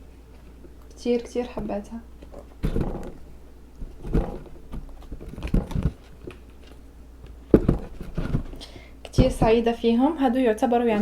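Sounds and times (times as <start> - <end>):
soft knocks and rustles of sneakers: 0.4 - 9.9.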